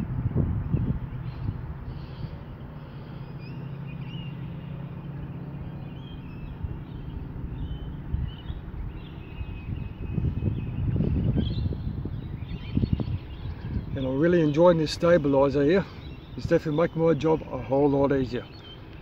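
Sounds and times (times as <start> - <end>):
low motor hum: 0.0 - 19.0
small birds chirping: 0.0 - 19.0
wind rumble on microphone: 0.0 - 19.0.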